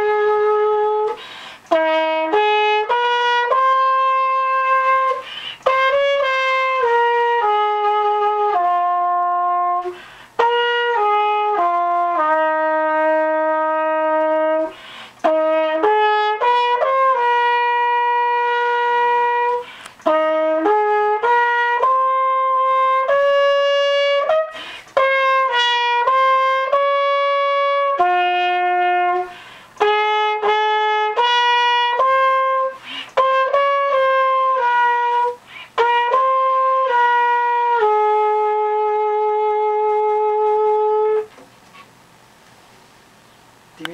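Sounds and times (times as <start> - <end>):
solo trumpet slow melody: 0.0 - 41.4.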